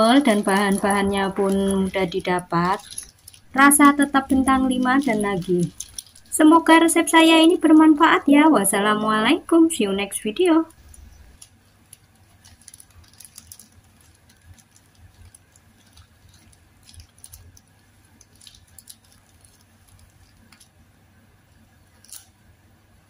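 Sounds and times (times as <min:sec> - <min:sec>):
paper wrapper rustling: 0:00.0 - 0:08.2, 0:10.7 - 0:20.8, 0:21.9 - 0:22.4.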